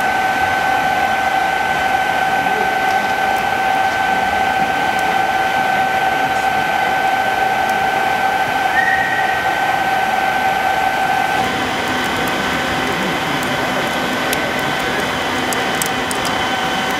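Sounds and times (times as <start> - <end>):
blower two-tone whine with hiss: 0.0 - 16.9.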